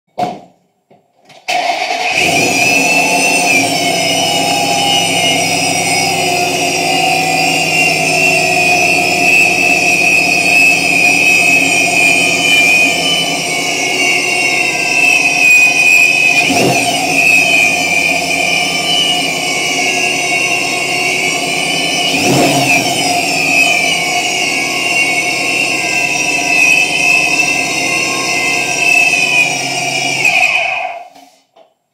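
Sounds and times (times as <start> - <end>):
supercharger high-pitched whine: 2.1 - 31.1
car engine idling: 2.2 - 30.2.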